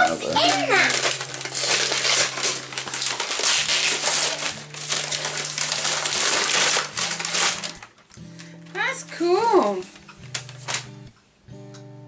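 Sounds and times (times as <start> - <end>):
wrapping paper tearing and crumpling: 0.0 - 11.0.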